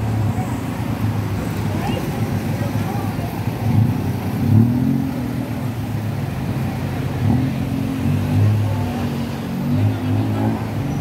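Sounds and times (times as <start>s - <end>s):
street traffic noise: 0.0s - 11.0s
tuk-tuk engine running: 0.0s - 11.0s.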